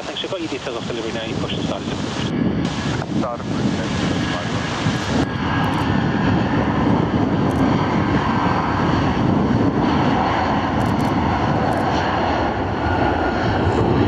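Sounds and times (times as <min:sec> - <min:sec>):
airliner engines running: 0:00.0 - 0:14.0.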